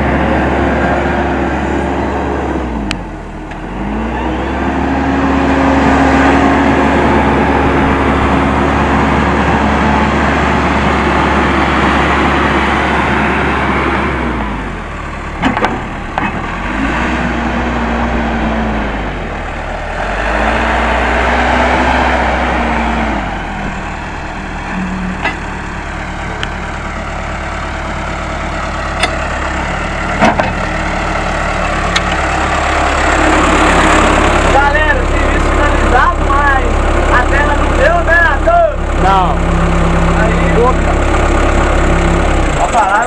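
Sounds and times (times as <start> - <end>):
backhoe diesel engine running: 0.0 - 43.0.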